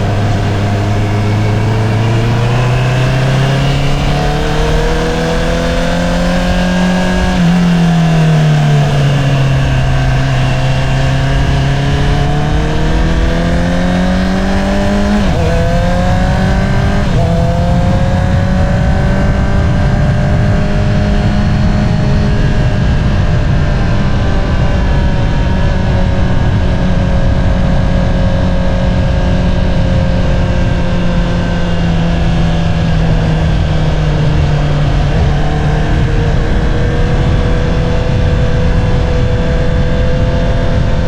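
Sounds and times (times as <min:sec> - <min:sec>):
motorcycle engine revving: 0:00.0 - 0:41.0
wind and road noise: 0:00.0 - 0:41.0.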